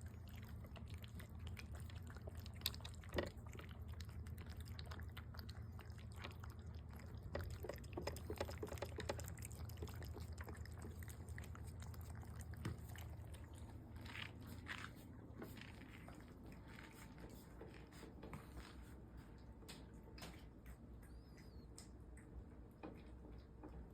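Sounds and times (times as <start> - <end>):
cats chewing food: 0.0 - 23.9.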